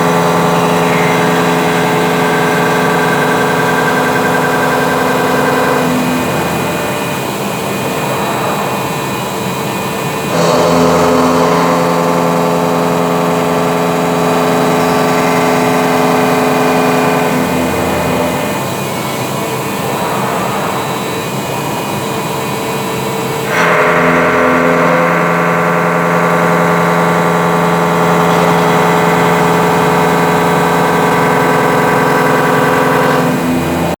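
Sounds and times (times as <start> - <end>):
milling machine whine: 0.0 - 34.0.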